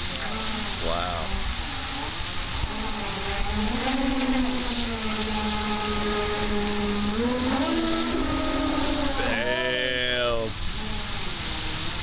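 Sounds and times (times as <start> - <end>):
model boat motors whining: 0.0 - 12.0.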